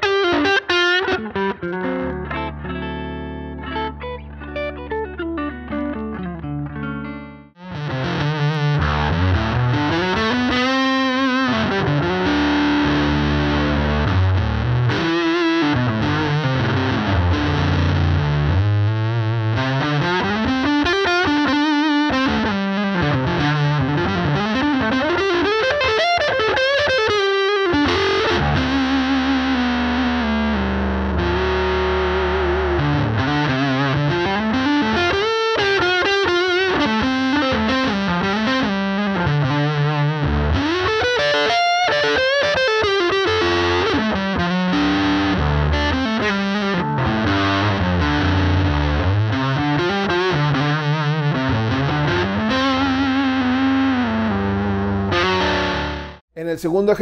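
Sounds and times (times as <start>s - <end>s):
distorted electric guitar riffs: 0.0s - 56.3s.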